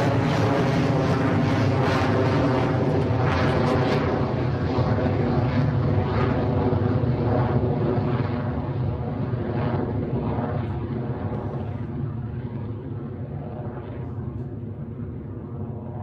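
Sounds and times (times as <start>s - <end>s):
rocket engines rumbling: 0.0s - 16.0s.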